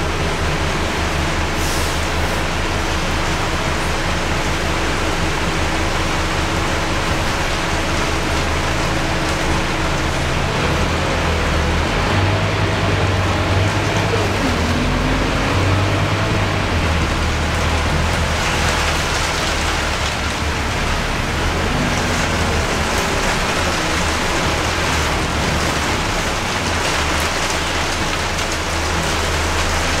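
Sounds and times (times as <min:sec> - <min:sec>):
diesel engine droning: 0:00.0 - 0:30.0
heavy rain on bus windows: 0:00.0 - 0:30.0.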